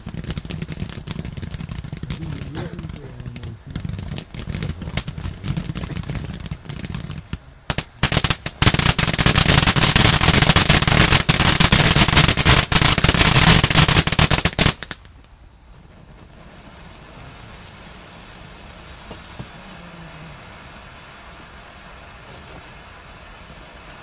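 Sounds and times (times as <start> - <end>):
firework sputtering and crackling: 0.0 - 24.0.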